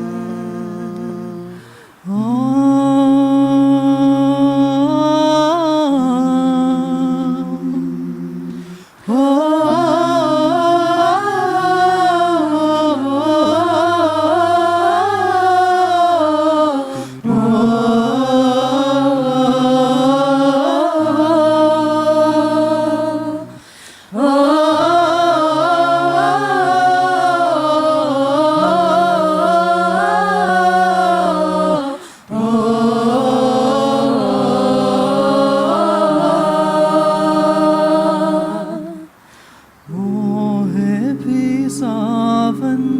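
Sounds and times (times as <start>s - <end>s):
a cappella group singing: 0.0s - 42.9s.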